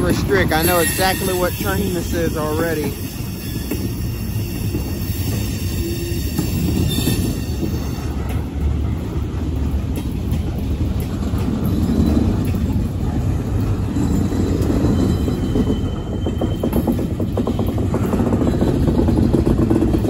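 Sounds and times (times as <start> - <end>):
steel train wheels rumbling on rails: 0.0 - 20.0.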